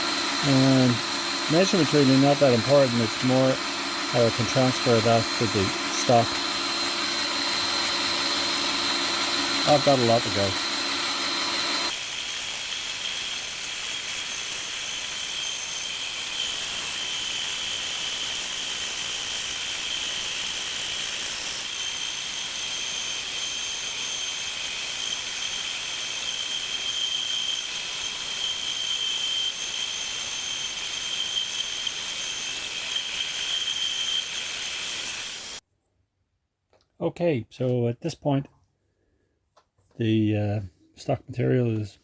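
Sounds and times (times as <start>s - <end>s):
bandsaw cutting wood: 0.0s - 35.6s.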